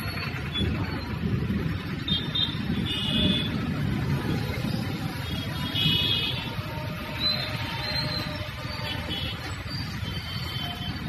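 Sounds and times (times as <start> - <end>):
passing cars and motorcycles: 0.0 - 11.0.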